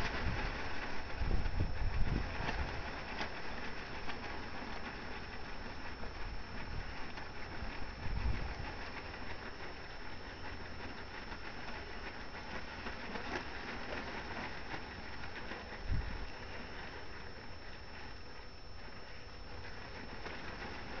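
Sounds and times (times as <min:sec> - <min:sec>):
tarp rustling and crackling: 0:00.0 - 0:21.0.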